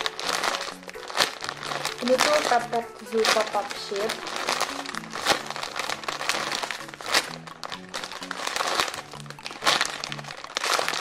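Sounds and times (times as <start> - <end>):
background music with bass line: 0.0 - 11.0
squishy toy crinkling and rustling: 0.0 - 11.0.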